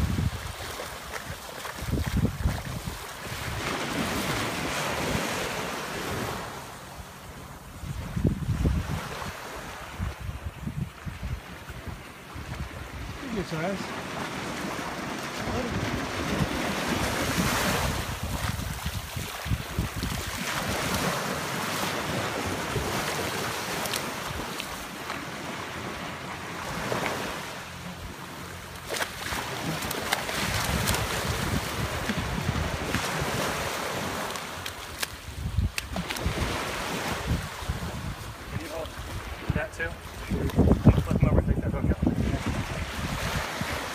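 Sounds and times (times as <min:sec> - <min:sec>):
wind buffeting microphone: 0:00.0 - 0:06.2, 0:07.7 - 0:24.6, 0:29.6 - 0:34.2, 0:35.2 - 0:43.9
waves washing on sandy beach: 0:00.0 - 0:43.9.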